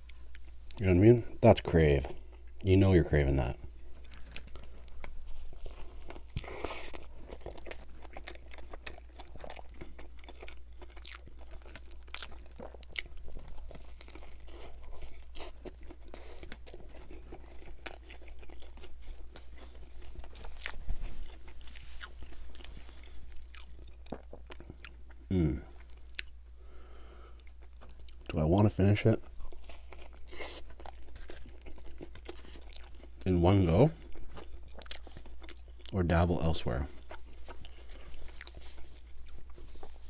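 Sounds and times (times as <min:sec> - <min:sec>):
wet crunchy chewing: 0:00.0 - 0:26.4, 0:27.3 - 0:40.0
biting into a burger: 0:03.6 - 0:28.4, 0:29.2 - 0:36.0, 0:36.9 - 0:40.0.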